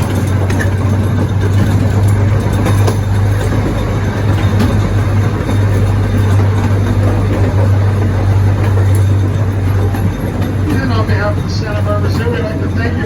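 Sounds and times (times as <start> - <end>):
low engine drone: 0.0 - 13.0
rumble of moving train cars: 0.0 - 13.0.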